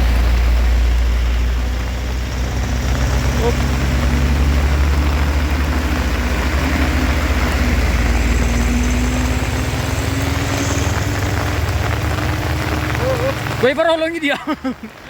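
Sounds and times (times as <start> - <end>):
heavy vehicle engine humming: 0.0 - 15.0.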